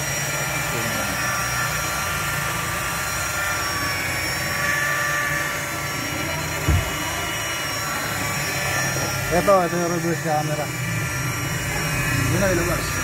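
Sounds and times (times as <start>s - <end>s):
machine droning: 0.0s - 13.0s.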